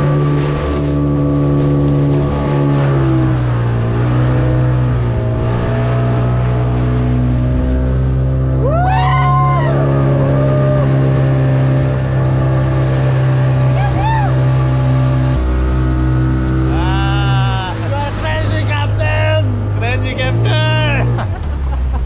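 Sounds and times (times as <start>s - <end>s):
outboard motor running: 0.0s - 22.0s
water rushing and spraying: 0.0s - 22.0s.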